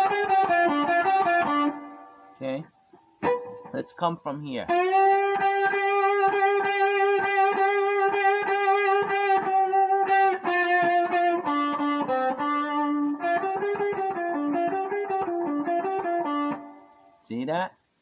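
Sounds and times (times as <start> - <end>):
guitar playing a blues lick: 0.0 - 3.9, 4.6 - 17.2.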